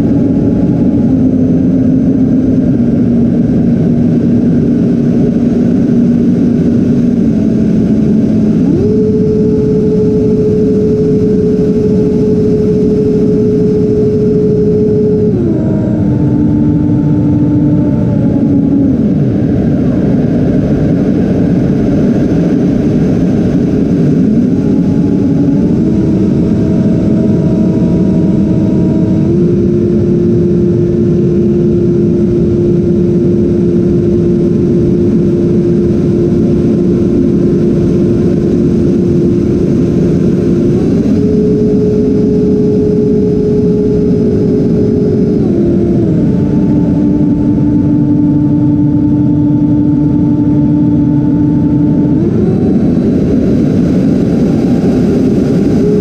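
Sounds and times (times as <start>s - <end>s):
electric fans whining: 0.0s - 56.0s.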